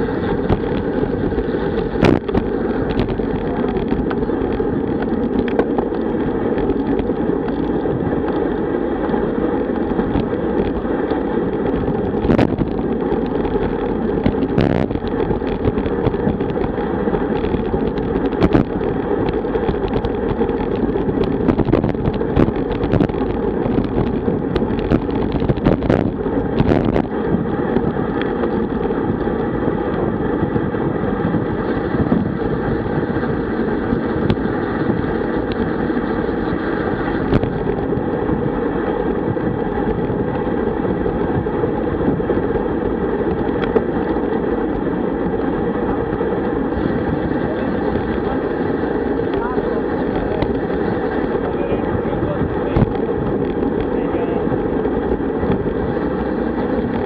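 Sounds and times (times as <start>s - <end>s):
tyre noise on asphalt: 0.0s - 57.0s
wind rumble on microphone: 0.0s - 57.0s.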